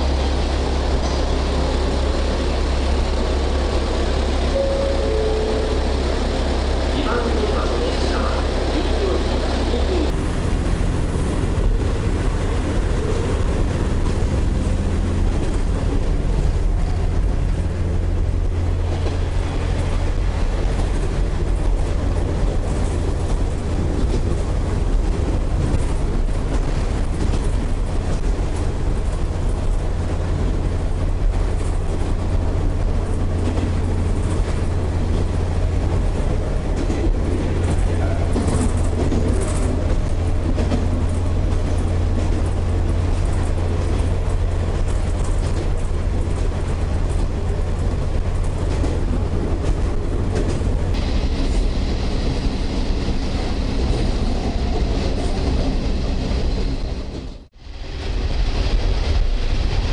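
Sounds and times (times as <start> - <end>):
wheels on rails: 0.0 - 57.4
diesel engine low rumble: 0.0 - 59.9.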